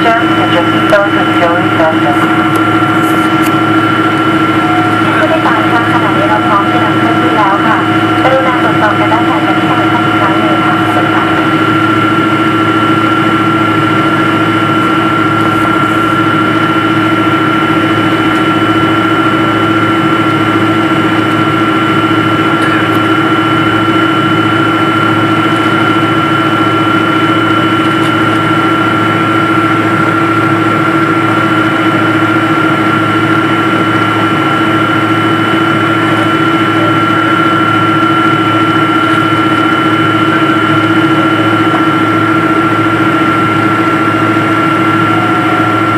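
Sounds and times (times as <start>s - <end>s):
jet engines droning in cabin: 0.0s - 45.9s.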